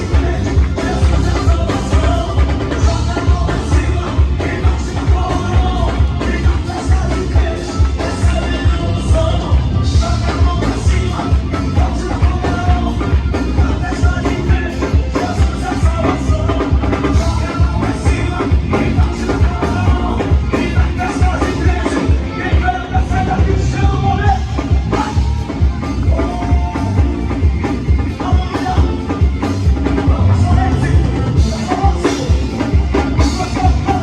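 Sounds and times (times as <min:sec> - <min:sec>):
drum and bass beat: 0:00.0 - 0:34.0
live band music: 0:00.0 - 0:34.0.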